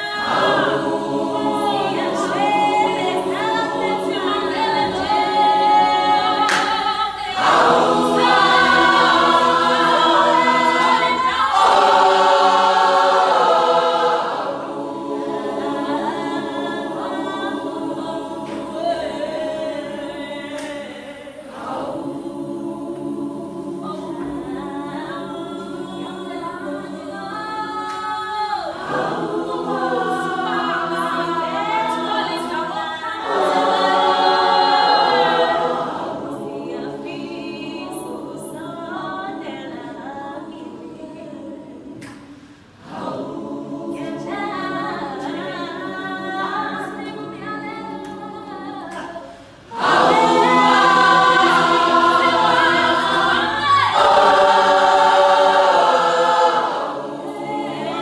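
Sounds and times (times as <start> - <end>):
women's choir singing: 0.0 - 58.0.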